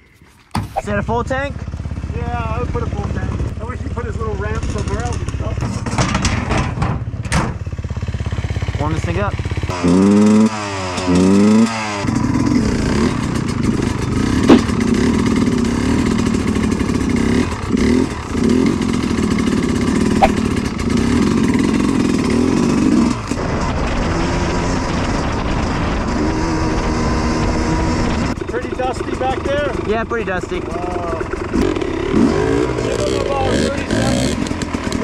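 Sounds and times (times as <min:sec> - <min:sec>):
dirt bike engine revving: 0:00.6 - 0:06.4, 0:07.8 - 0:35.0.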